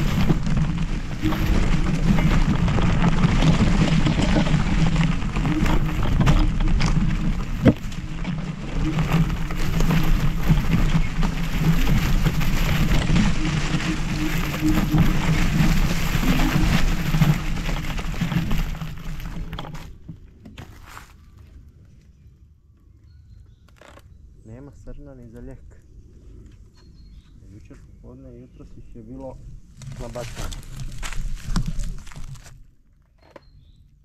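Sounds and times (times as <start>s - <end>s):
wheels rumbling on path: 0.0s - 33.8s.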